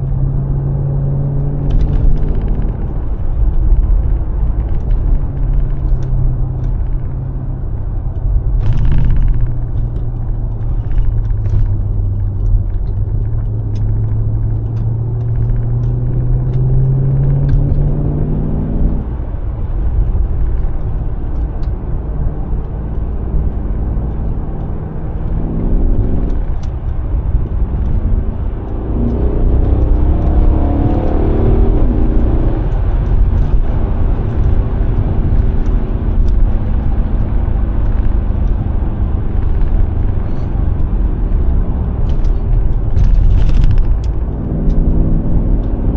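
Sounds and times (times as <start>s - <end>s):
car engine accelerating: 0.0s - 45.9s
road rumble: 0.0s - 45.9s.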